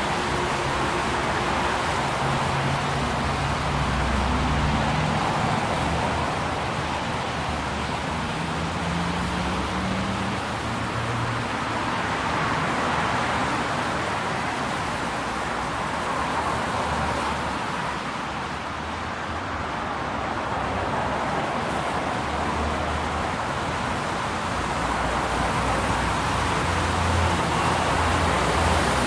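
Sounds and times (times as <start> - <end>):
tyres hissing on wet road: 0.0 - 29.0.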